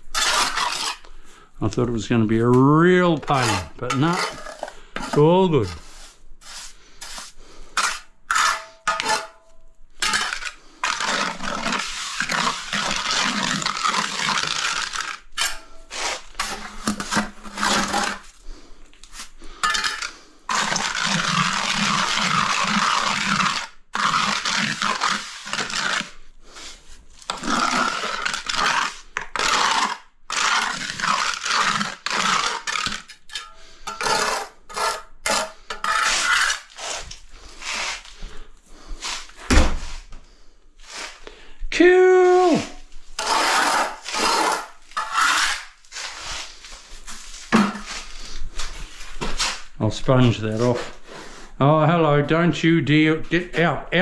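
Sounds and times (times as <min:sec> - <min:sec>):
hand tool scraping hard surface: 0:00.0 - 0:41.3, 0:42.4 - 0:51.6.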